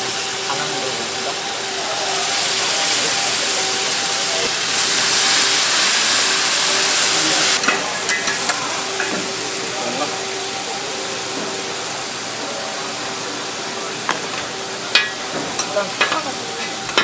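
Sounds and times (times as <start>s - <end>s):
noodles sizzling on griddle: 0.0s - 17.0s.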